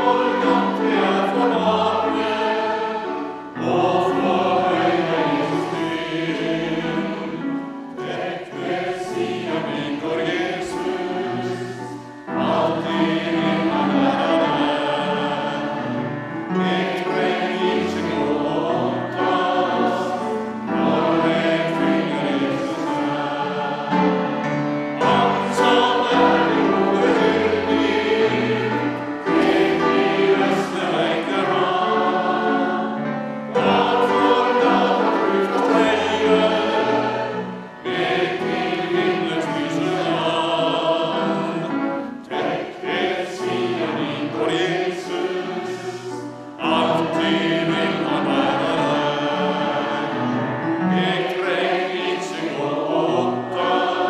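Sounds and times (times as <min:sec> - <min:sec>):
group singing a hymn: 0:00.0 - 0:54.0
instrumental accompaniment: 0:00.0 - 0:54.0.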